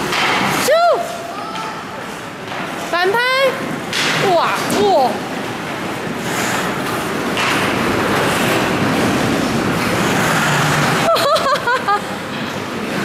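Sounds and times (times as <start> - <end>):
skates scraping on ice: 0.0 - 13.0.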